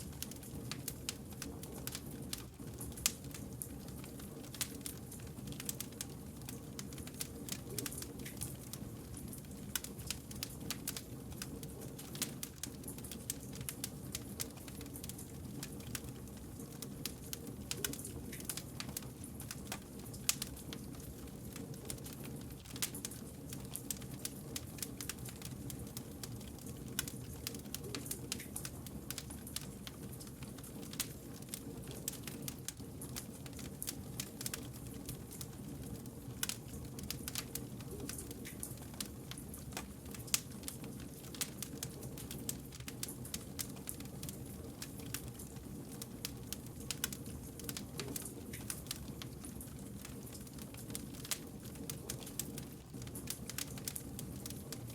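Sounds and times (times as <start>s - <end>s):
low rumble of burning logs: 0.0s - 54.9s
wood fire crackling and popping: 0.0s - 54.9s.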